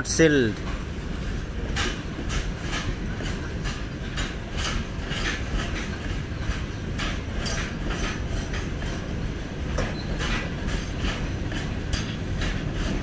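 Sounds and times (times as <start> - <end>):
wheels clacking over rail joints: 0.5 - 13.0.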